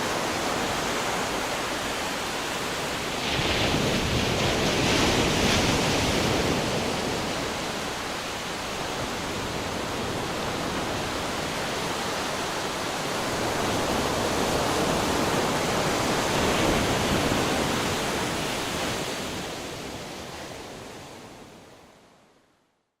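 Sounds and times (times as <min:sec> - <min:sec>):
surf waves rushing: 0:00.0 - 0:21.2.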